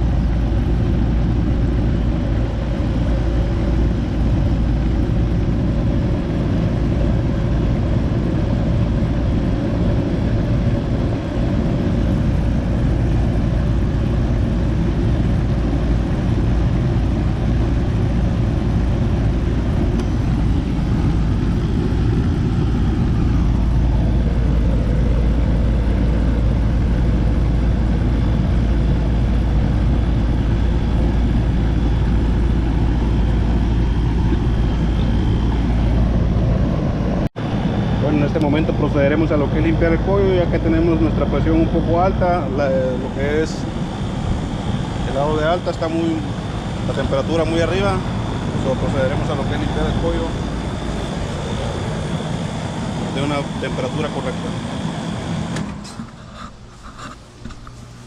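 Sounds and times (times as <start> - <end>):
air conditioner condenser running: 0.0 - 58.0.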